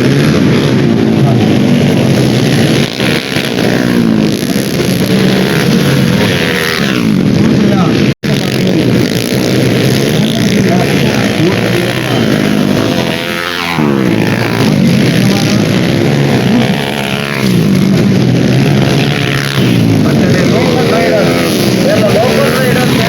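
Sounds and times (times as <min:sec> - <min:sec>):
dirt bike engines revving: 0:00.0 - 0:23.0
dirt bike passing by: 0:00.0 - 0:23.0.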